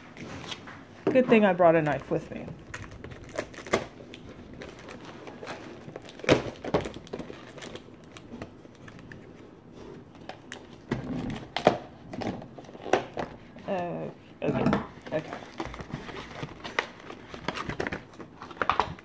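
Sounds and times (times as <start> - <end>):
packaging crinkling: 2.0 - 13.4, 15.0 - 19.0.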